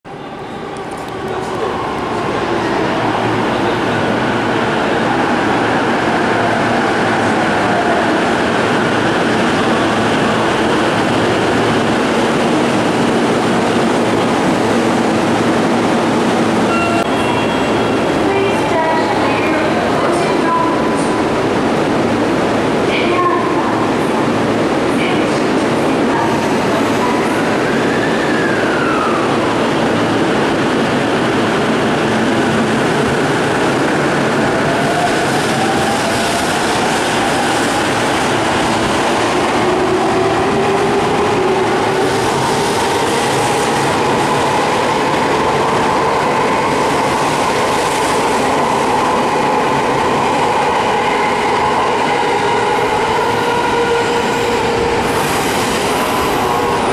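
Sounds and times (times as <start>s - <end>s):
train running noise: 0.1s - 56.9s.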